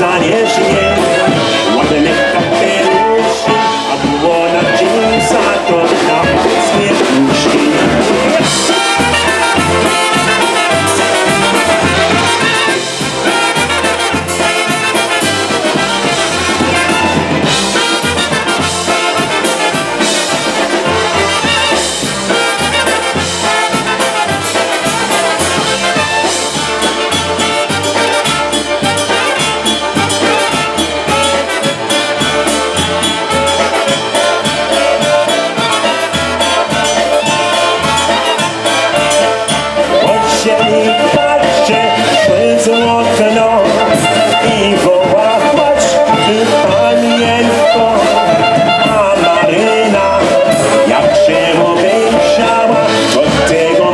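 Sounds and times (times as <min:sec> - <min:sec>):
bass beat: 0:00.0 - 0:53.9
clarinet: 0:00.0 - 0:53.9
polka band playing: 0:00.0 - 0:53.9
trumpets: 0:00.0 - 0:53.9.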